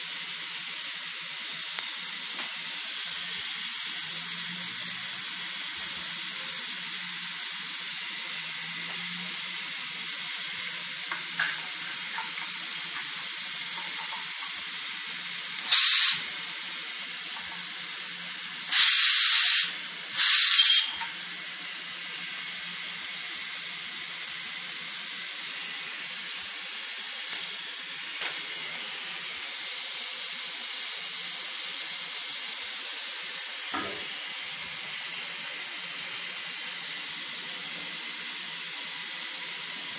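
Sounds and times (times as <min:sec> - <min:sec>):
loud steam blasts from valve: 0:00.0 - 0:39.9
pressure cooker hissing steam: 0:00.0 - 0:39.9.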